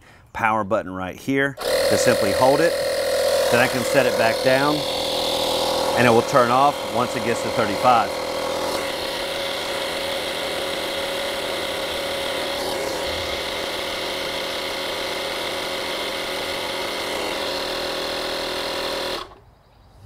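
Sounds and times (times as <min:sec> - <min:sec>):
tire inflator compressor droning: 0:01.6 - 0:19.5.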